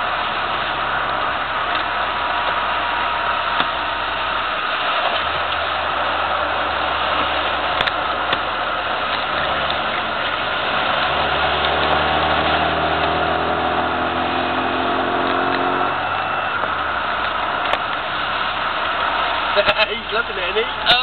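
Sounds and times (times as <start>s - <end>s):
car engine running at speed: 0.0s - 21.0s
tyres hissing on wet track: 0.0s - 21.0s.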